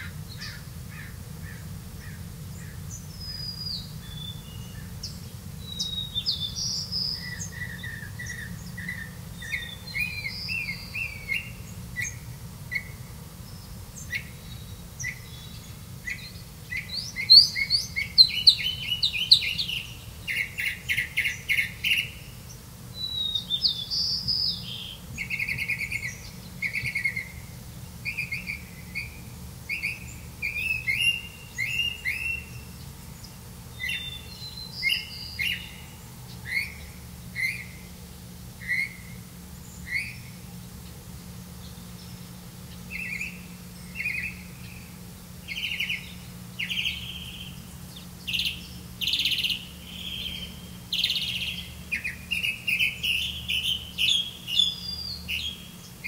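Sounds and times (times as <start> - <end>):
low steady rumble: 0.0 - 56.0
birds chirping and whistling: 2.6 - 27.4, 28.0 - 37.9, 38.6 - 40.4, 41.6 - 56.0.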